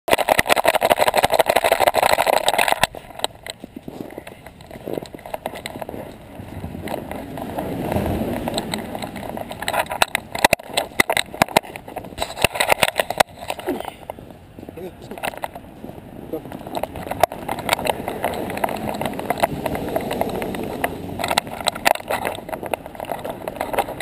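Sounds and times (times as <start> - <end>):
camera knocks and scrapes: 0.1 - 14.2, 16.5 - 24.0.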